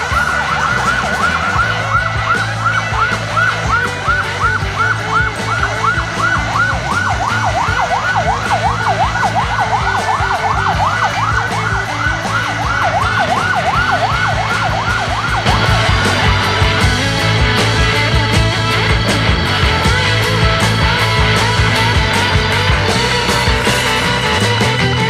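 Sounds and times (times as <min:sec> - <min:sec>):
emergency siren yelping: 0:00.0 - 0:24.8.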